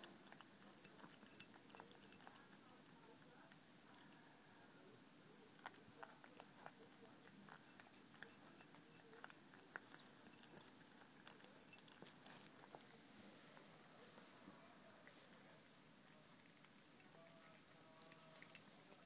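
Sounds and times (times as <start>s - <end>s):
cat chewing and lapping: 0.0s - 19.0s.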